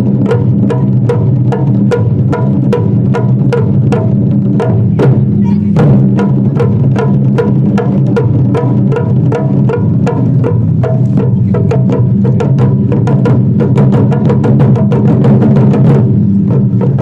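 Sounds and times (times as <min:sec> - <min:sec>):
ensemble drumming fast rhythm: 0:00.0 - 0:17.0.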